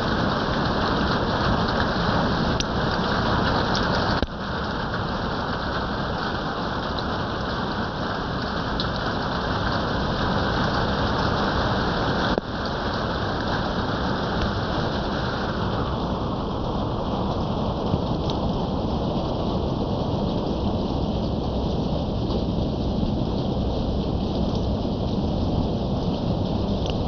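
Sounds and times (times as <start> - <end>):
heavy rain on roofs: 0.0 - 27.0.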